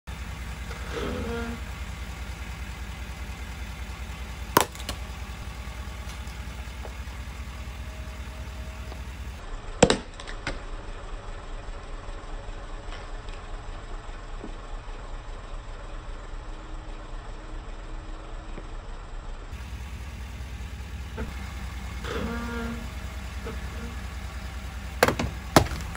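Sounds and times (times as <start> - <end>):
truck engine idling: 0.0 - 25.9.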